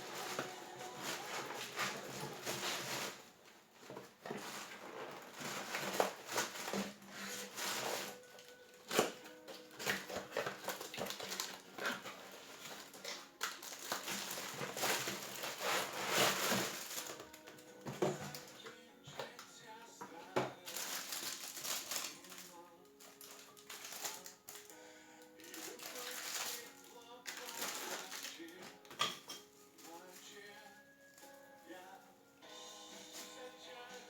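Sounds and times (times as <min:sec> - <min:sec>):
packaging rustling and crinkling: 0:00.0 - 0:19.6, 0:20.3 - 0:31.8.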